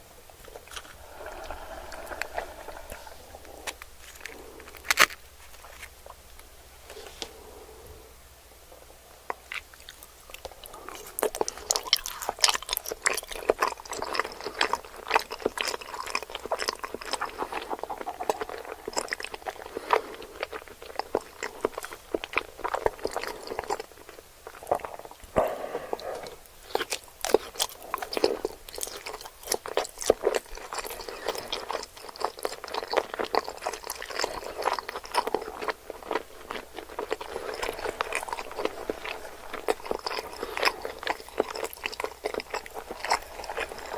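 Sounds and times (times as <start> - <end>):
chewing with crunching clicks: 0.3 - 7.0, 9.2 - 43.9.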